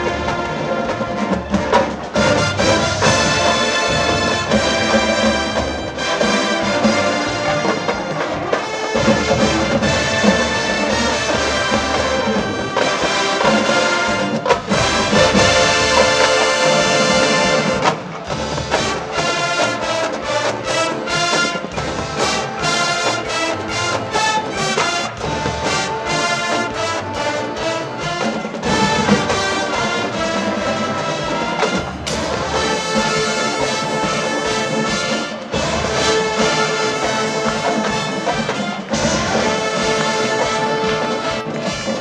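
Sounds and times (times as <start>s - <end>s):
brass section holding chords: 0.0s - 42.0s
drumline beating steady rhythm: 0.0s - 42.0s.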